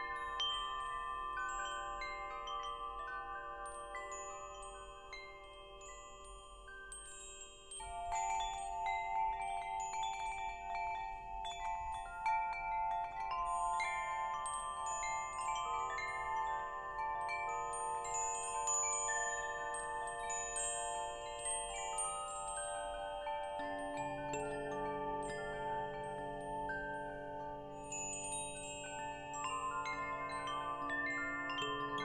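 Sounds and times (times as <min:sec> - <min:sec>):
wind chimes ringing: 0:00.0 - 0:32.0.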